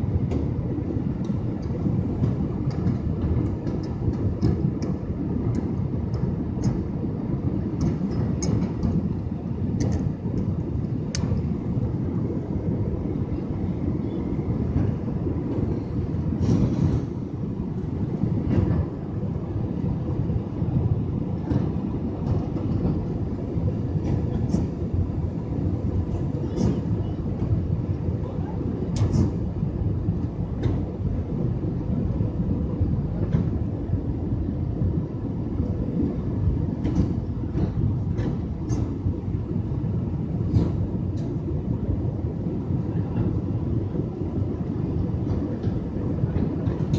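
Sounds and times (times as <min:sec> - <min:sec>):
low rumble of engines and airflow: 0:00.0 - 0:46.9.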